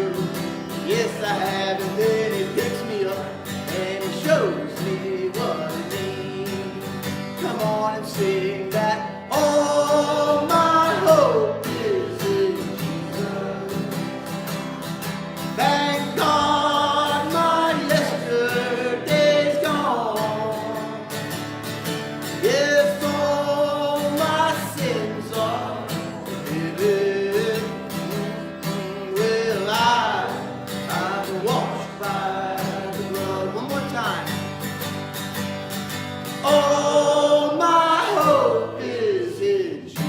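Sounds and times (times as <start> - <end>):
person singing worship song: 0.0 - 14.4, 15.5 - 21.3, 22.4 - 34.3, 36.4 - 40.0
strummed guitar: 0.0 - 40.0.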